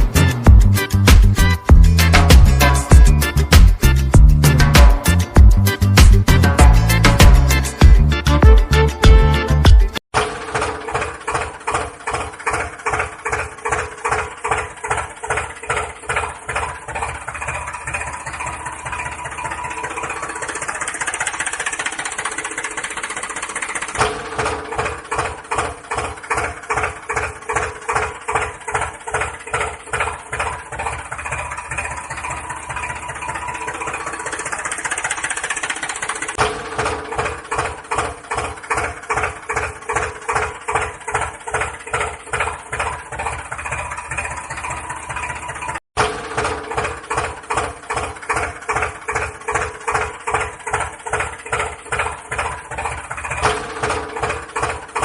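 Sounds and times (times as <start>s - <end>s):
tractor engine chugging: 0.0s - 55.0s.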